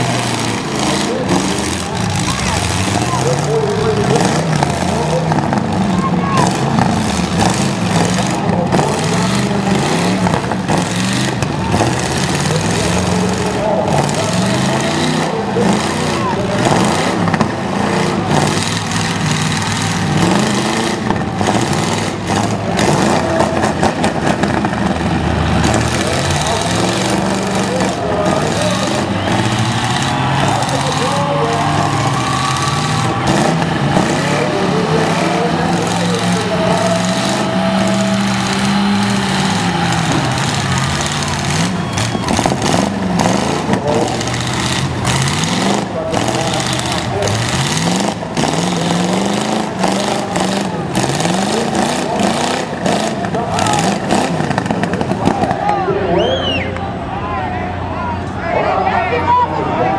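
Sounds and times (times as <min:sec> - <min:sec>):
cars knocking together: 0:00.0 - 0:57.1
car engines revving: 0:00.0 - 0:59.9.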